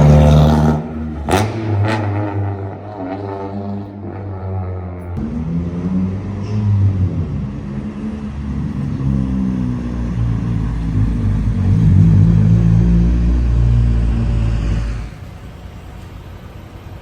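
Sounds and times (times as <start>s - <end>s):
car engine revving: 0.0s - 15.8s.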